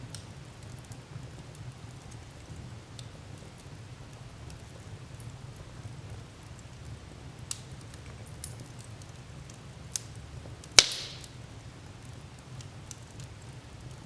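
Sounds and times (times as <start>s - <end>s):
wood fire crackling: 0.0s - 14.0s
loud sharp crack of fire: 0.1s - 14.0s.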